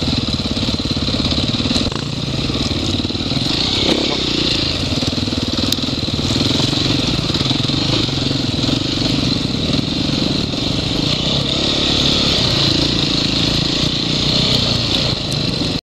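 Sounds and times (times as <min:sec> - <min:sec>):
off-road motorcycle engine: 0:00.0 - 0:15.8.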